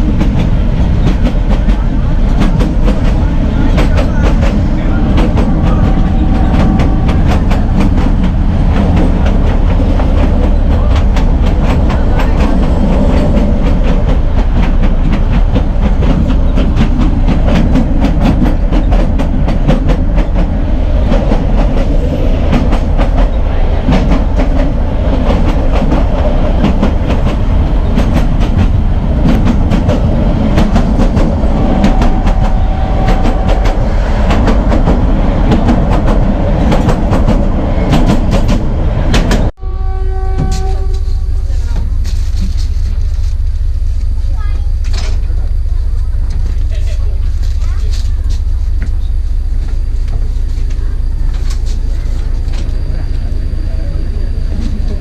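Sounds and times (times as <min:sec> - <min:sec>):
clickety-clack over rail joints: 0:00.0 - 0:39.5, 0:44.4 - 0:52.7
train wheels rumbling: 0:00.0 - 0:55.0.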